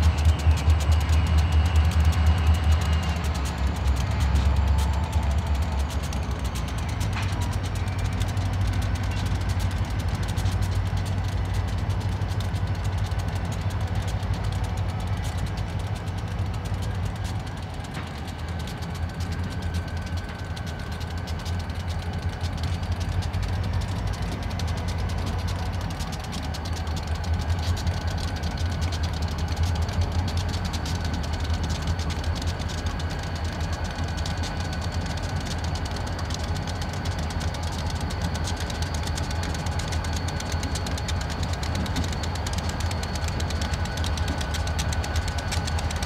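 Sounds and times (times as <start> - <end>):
diesel locomotive engines rumbling: 0.0 - 46.0
thin steady whine: 0.0 - 46.0.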